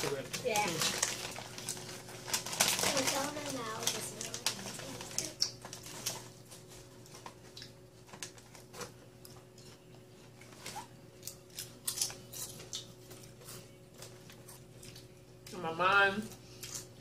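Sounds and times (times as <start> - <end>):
chip bag crinkling: 0.0 - 15.4
chips crunching and chewing: 0.0 - 15.6, 16.3 - 17.0.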